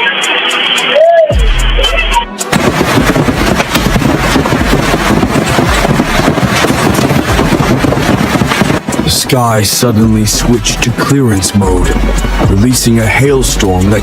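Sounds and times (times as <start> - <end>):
music: 0.0 - 6.3, 8.9 - 14.0
hailstones pelting hard surfaces: 2.5 - 14.0.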